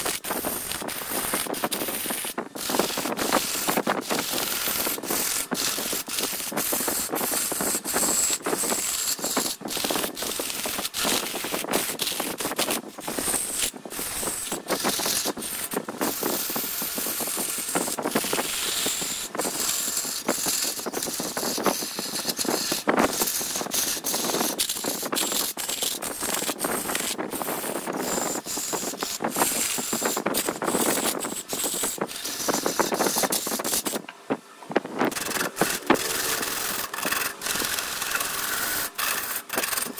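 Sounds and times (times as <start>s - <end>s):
wood scraping on a lathe: 0.0s - 34.1s, 34.8s - 39.9s.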